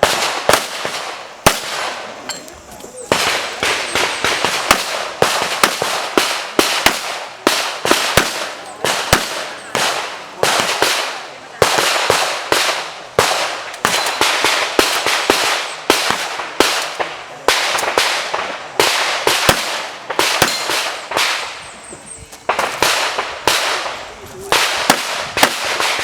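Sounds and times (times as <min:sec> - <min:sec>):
rapid handgun shots with echo: 0:00.0 - 0:02.1, 0:03.1 - 0:21.6, 0:22.5 - 0:26.0.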